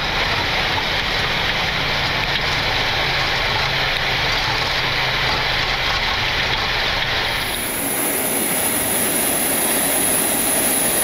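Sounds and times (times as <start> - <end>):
jet engine and airflow roar: 0.0 - 11.0
wheels rumbling on runway: 0.0 - 11.0.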